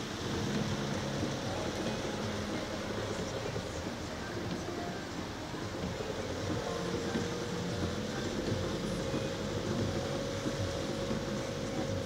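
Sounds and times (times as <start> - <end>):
car driving through water: 0.0 - 12.0.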